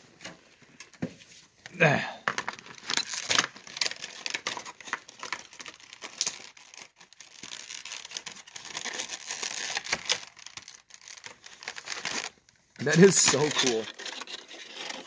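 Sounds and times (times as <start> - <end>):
plastic packaging rustling: 2.2 - 15.0.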